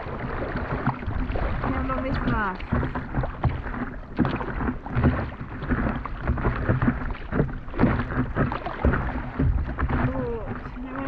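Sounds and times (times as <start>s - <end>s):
paddle strokes splashing: 0.0s - 11.0s
water slapping against paddleboard: 0.0s - 11.0s.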